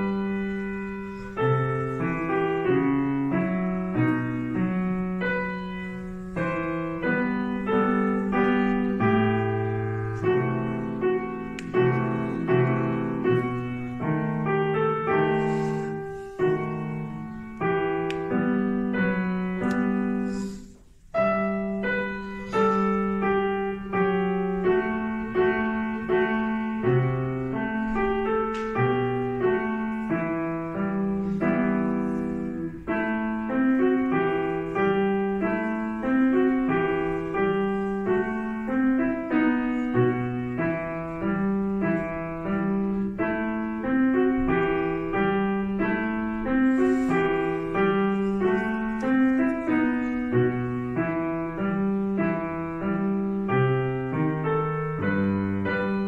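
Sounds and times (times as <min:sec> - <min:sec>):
solo grand piano piece: 0:00.0 - 0:56.0.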